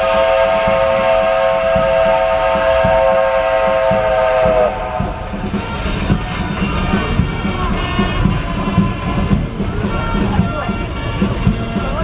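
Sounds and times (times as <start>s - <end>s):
locomotive whistle blast: 0.0s - 12.0s.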